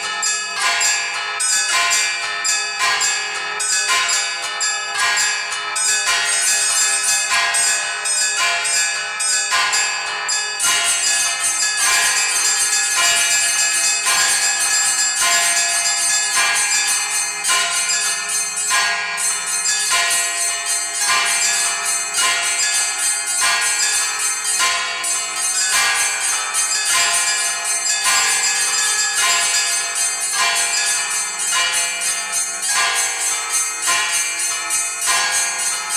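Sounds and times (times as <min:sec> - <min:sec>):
larger bells ringing: 0:00.0 - 0:35.9
small high bells struck: 0:00.0 - 0:35.9.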